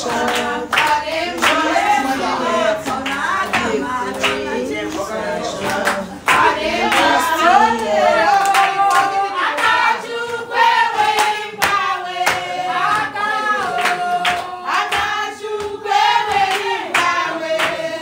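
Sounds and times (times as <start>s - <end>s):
rhythmic hand-clapping: 0.0s - 18.0s
women singing a chant: 0.0s - 18.0s.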